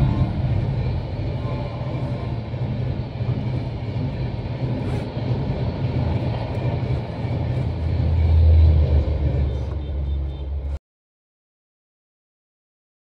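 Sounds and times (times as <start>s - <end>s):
train wheels rumbling on rails: 0.0s - 10.8s.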